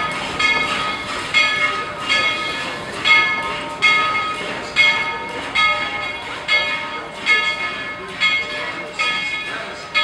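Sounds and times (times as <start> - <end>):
locomotive bell ringing: 0.0 - 10.0.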